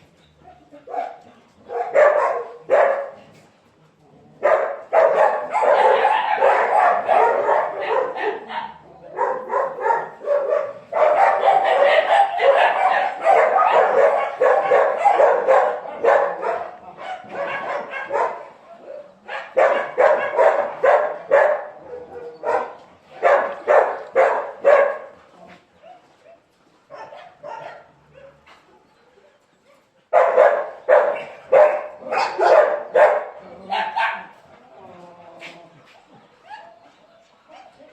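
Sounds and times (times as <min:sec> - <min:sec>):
dogs barking: 0:00.4 - 0:03.3, 0:04.3 - 0:28.8, 0:30.1 - 0:35.6.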